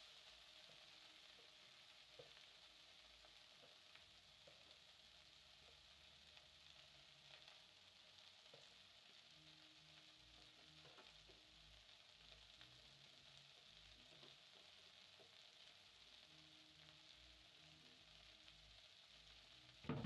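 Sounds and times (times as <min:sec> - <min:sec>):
greens sizzling in a pot: 0:00.0 - 0:20.0.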